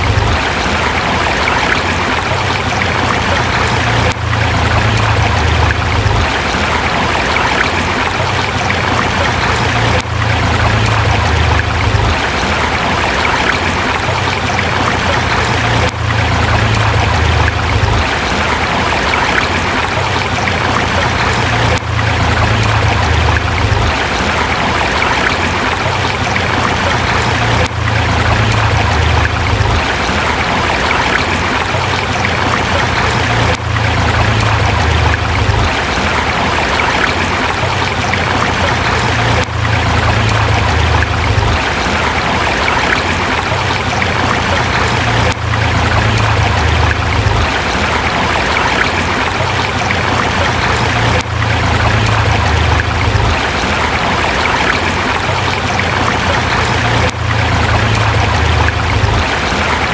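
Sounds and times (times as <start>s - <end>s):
low water rumble: 0.0s - 59.9s
river flowing over rocks: 0.0s - 59.9s.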